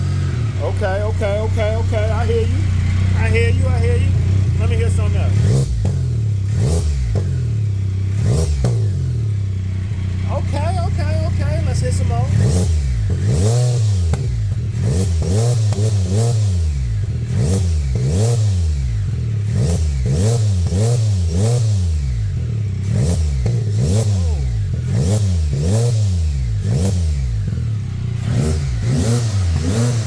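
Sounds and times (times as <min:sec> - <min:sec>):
engine revving in throttle blips: 0:00.0 - 0:30.0.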